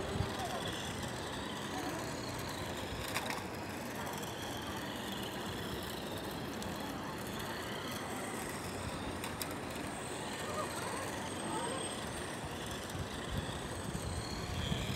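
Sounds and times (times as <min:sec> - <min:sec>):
radio-controlled car whine: 0:00.0 - 0:14.9.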